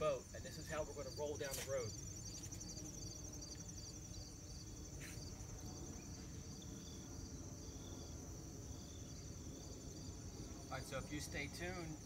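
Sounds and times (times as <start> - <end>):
insect chirps: 0.0 - 12.0
insects trilling: 0.0 - 12.0.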